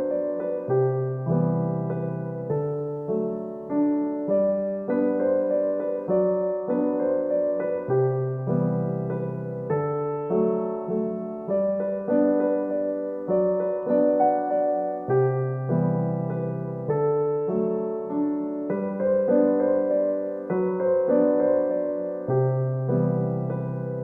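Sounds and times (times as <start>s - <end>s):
slow gentle piano piece: 0.0s - 24.0s.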